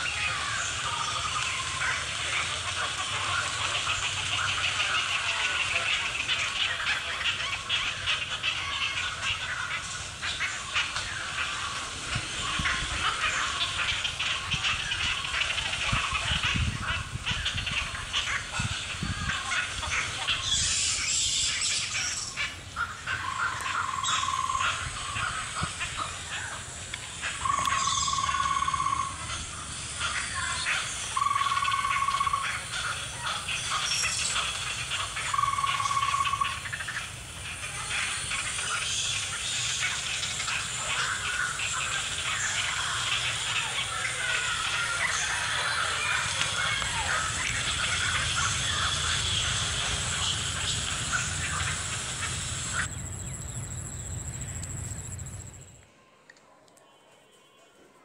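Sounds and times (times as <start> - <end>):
wild birds chirping and calling: 0.0 - 55.8.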